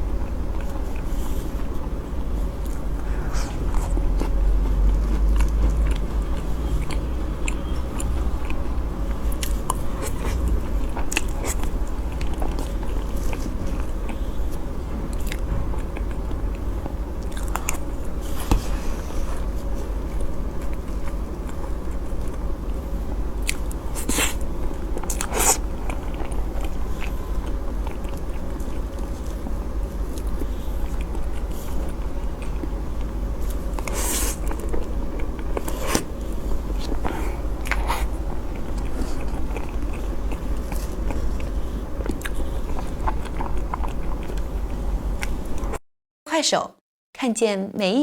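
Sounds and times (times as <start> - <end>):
chewing soft cake: 0.0 - 45.8.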